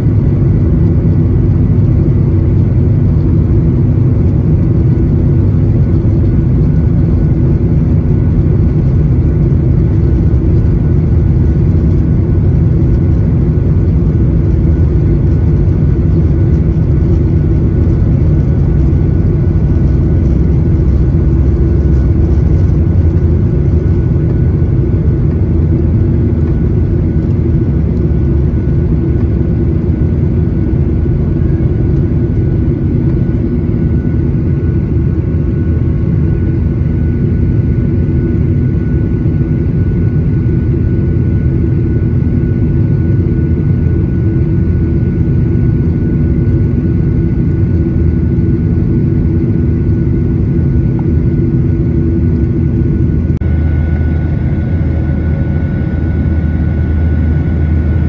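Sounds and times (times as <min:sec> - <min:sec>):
faint high engine whine: 0:00.0 - 0:58.0
jet engine roar in cabin: 0:00.0 - 0:58.0.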